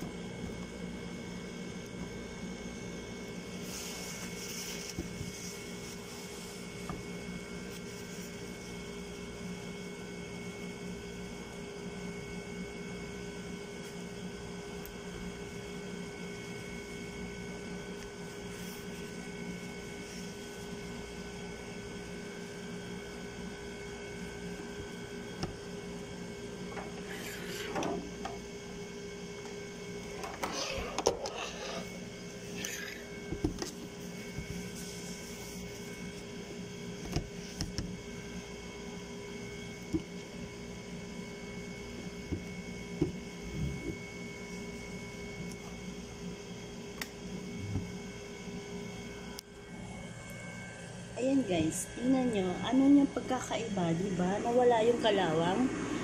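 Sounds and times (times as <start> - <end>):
kitchen appliance humming: 0.0 - 56.0.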